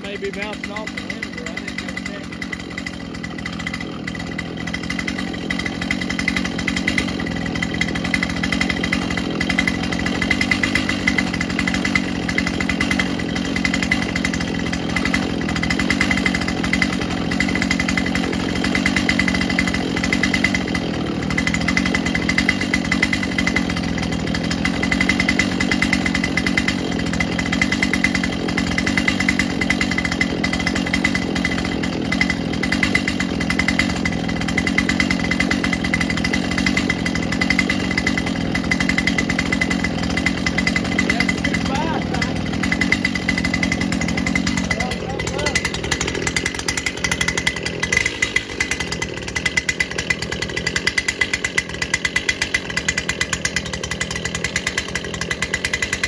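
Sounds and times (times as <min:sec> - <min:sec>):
chainsaw running at high revs: 0:00.0 - 0:56.0.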